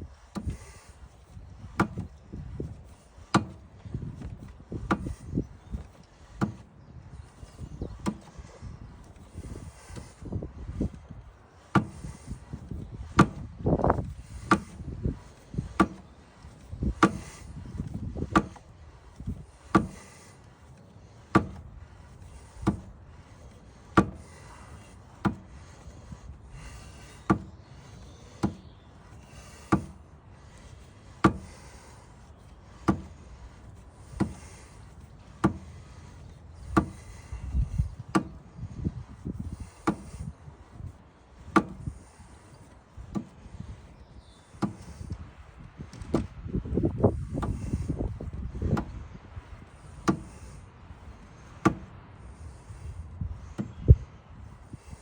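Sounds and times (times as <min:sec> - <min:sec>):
rubbing and scraping: 0:00.0 - 0:55.0.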